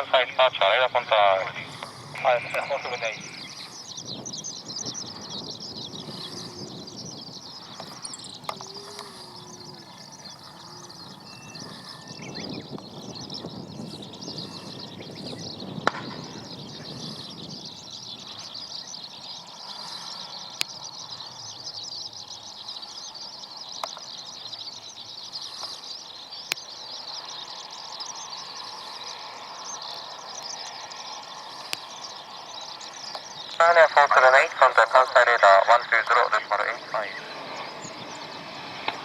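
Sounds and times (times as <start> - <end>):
birds chirping: 0.0 - 39.0
low aircraft rumble: 0.0 - 39.0.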